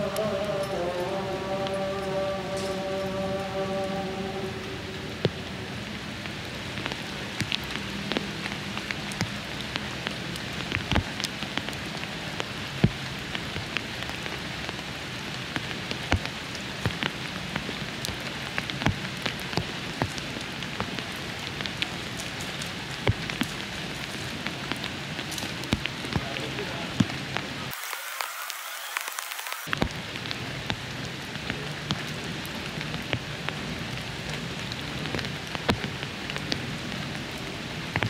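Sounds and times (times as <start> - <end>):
rain hissing: 0.0 - 38.0
raindrops tapping: 0.0 - 38.0.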